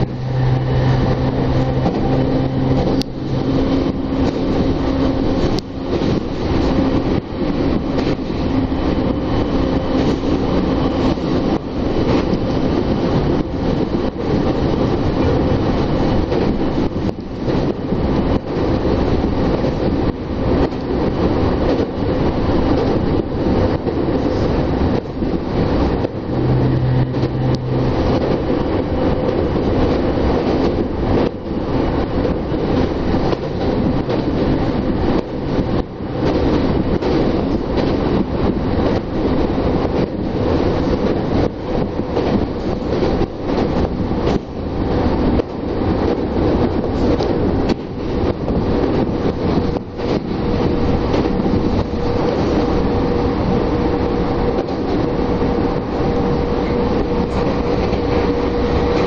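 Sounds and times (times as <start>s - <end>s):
track knocks: 0.0s - 59.0s
train wheels rumbling on rails: 0.0s - 59.0s.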